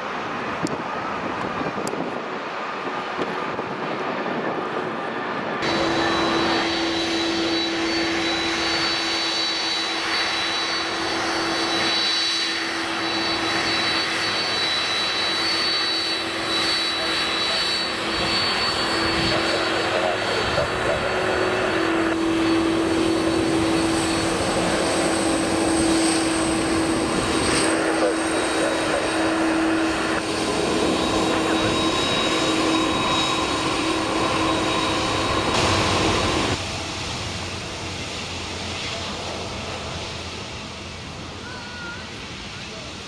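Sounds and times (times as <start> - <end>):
jet engines humming and whining: 0.0 - 43.0
wind-like rumble: 0.0 - 43.0.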